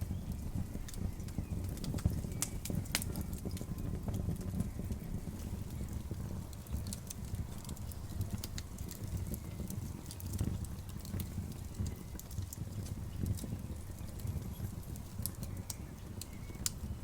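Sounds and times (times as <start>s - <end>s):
campfire crackling and popping: 0.0s - 17.0s
low rumbling of flames: 0.0s - 17.0s.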